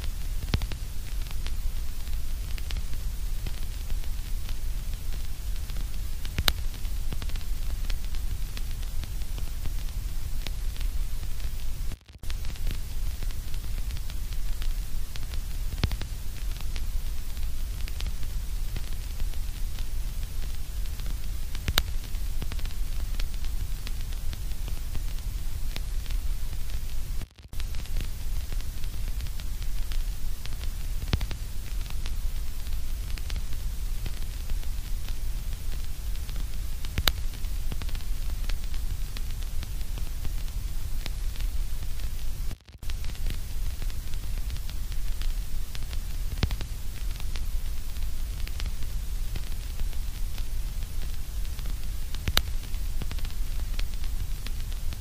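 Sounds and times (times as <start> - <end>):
faint crackles: 0.0 - 55.0
white-noise hiss: 0.0 - 55.0.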